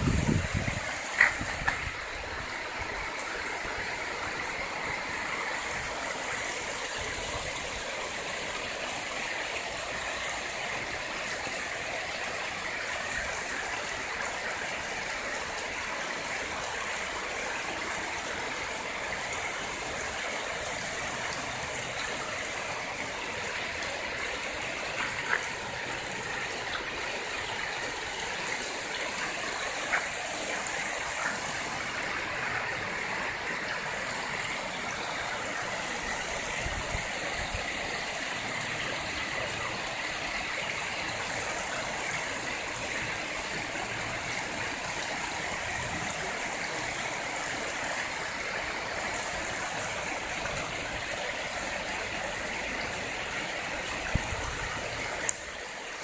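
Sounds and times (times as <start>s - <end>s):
river rapids rushing over rocks: 0.0s - 56.0s.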